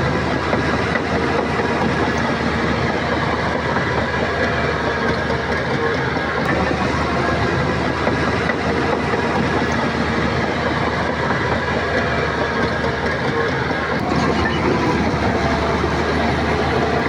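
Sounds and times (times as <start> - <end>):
bulldozer diesel engine running: 0.0 - 17.0
steel tracks rattling: 0.0 - 17.0.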